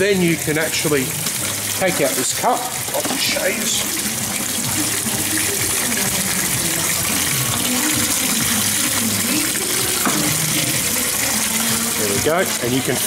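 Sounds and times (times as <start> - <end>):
aquarium water rushing: 0.0 - 13.0.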